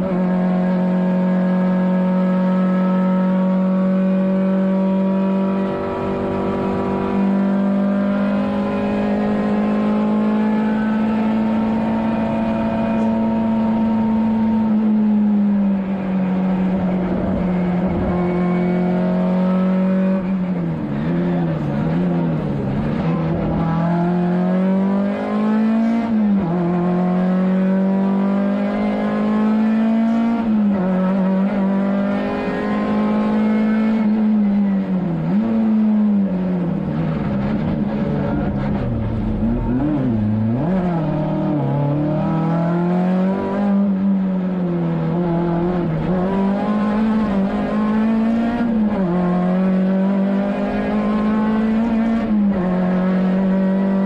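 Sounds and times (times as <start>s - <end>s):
rally car engine at high revs: 0.0s - 54.0s.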